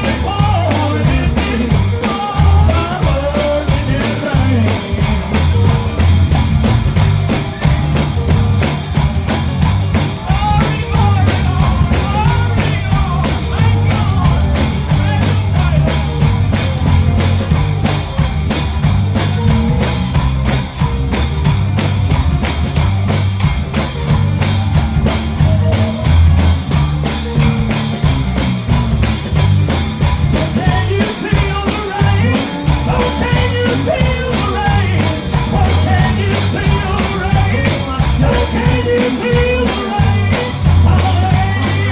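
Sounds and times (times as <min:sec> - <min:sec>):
upbeat gospel band music: 0:00.0 - 0:41.9.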